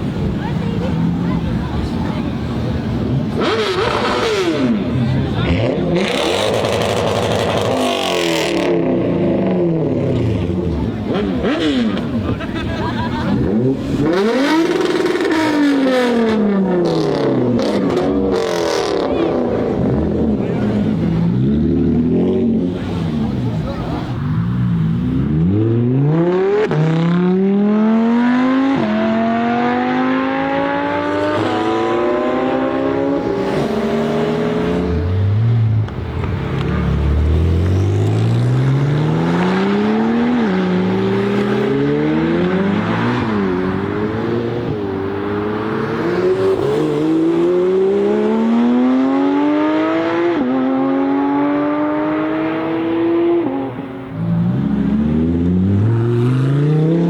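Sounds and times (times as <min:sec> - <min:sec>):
car engine accelerating through gears: 0:03.0 - 0:12.3, 0:13.3 - 0:57.0.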